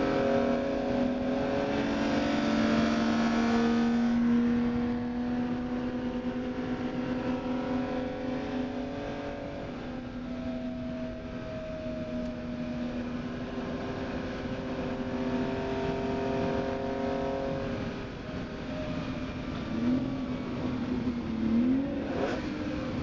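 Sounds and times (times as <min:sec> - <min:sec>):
car engine at high revs: 0:00.0 - 0:23.0
wind and road noise: 0:00.0 - 0:23.0.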